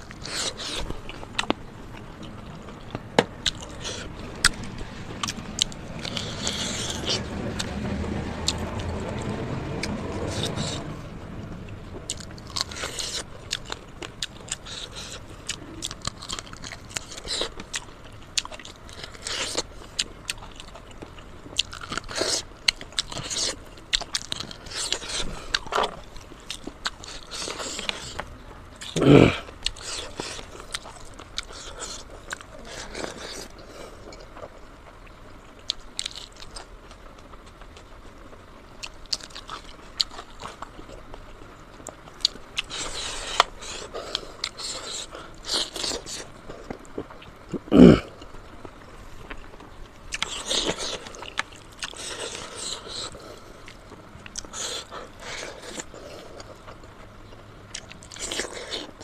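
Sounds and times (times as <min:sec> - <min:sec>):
biting crunching and chewing: 0:00.0 - 0:59.0.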